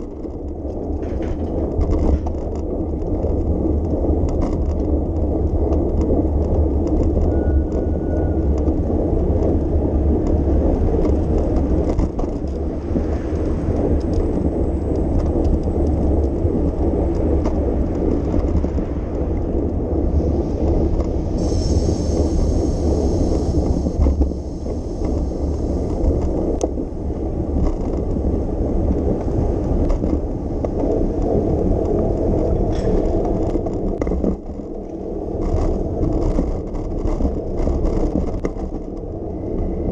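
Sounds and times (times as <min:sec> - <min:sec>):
bicycle tyre road rumble: 0:00.0 - 0:39.9
wind buffeting microphone: 0:00.0 - 0:39.9.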